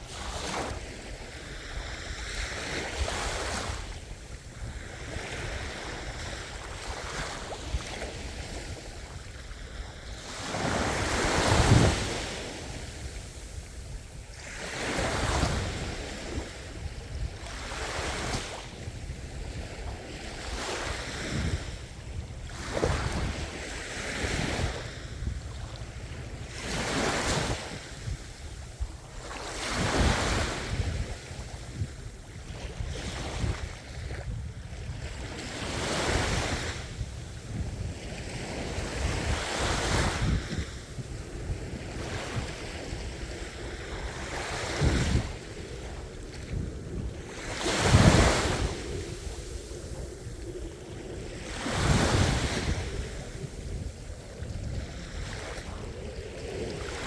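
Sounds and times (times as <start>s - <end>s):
waves breaking and washing in: 0.0s - 57.0s.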